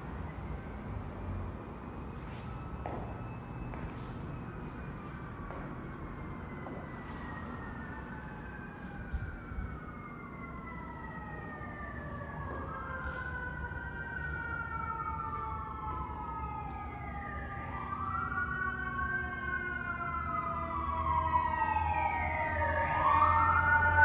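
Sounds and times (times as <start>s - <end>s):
emergency siren wailing: 0.0s - 24.0s.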